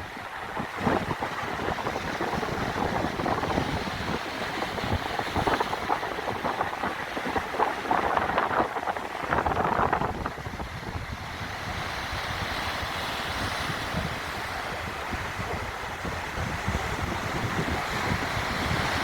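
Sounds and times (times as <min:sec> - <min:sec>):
sea waves washing on shore: 0:00.0 - 0:19.0
wind buffeting microphone: 0:00.0 - 0:19.0.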